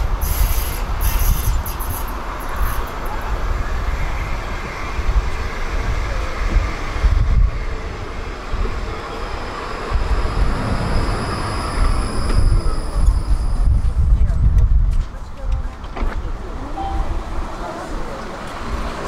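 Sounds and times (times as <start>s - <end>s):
tram wheels rolling on rails: 0.0s - 19.0s.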